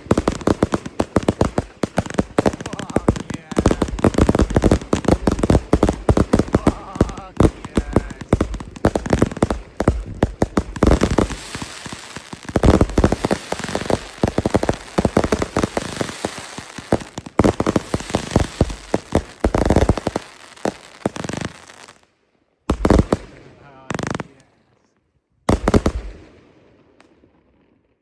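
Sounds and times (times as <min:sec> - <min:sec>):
fireworks bangs and crackles: 0:00.0 - 0:22.0, 0:22.7 - 0:24.5, 0:25.5 - 0:28.0.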